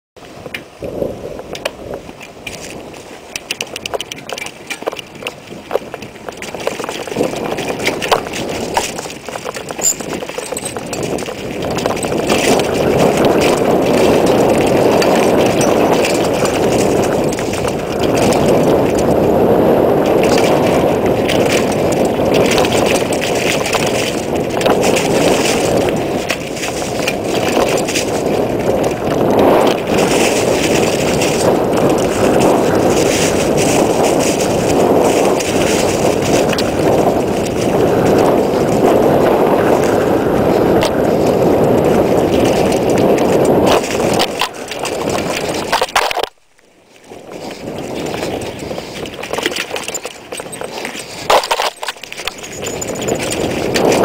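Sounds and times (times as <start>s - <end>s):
bike tyres rolling on dirt: 0.2s - 54.0s
wind rushing over microphone: 0.2s - 54.0s
bike rattling and clicking: 0.4s - 54.0s.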